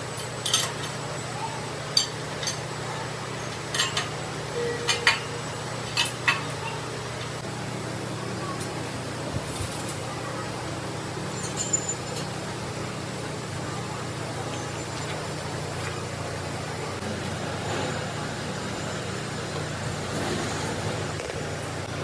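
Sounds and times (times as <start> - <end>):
workshop machine humming: 0.0 - 22.0.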